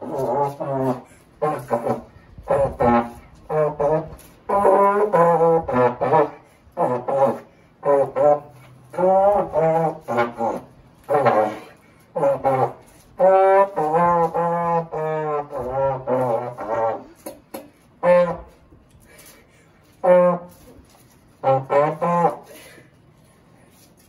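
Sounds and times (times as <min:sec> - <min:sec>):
trombone held notes: 0:00.0 - 0:17.2, 0:18.0 - 0:18.6, 0:20.0 - 0:22.7.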